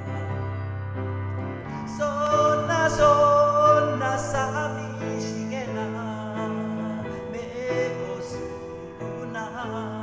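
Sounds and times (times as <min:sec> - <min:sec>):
man singing ballad: 0:00.0 - 0:10.0
piano chords: 0:00.0 - 0:10.0.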